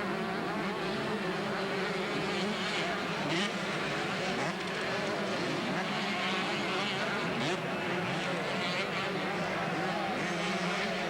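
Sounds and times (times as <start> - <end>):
motocross bike engines buzzing: 0.0 - 11.0.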